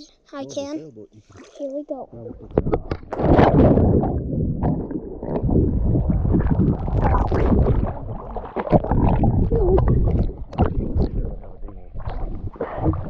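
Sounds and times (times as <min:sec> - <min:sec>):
water splashing and sloshing: 0:01.2 - 0:13.0
muffled underwater rumble and gurgling: 0:02.1 - 0:13.0.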